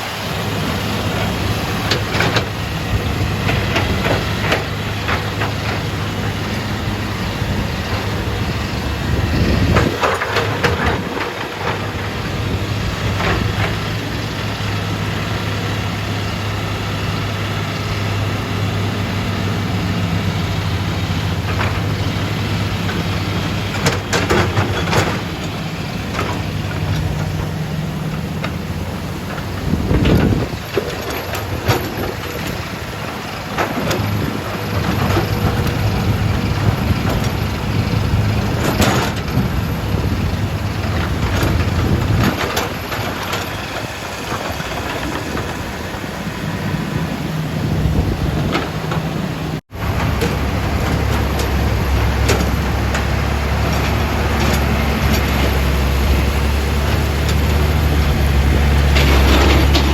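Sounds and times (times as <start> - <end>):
excavator diesel engine running: 0.0 - 59.9
knocks and clatter: 1.2 - 14.2, 21.2 - 46.7, 47.9 - 59.9.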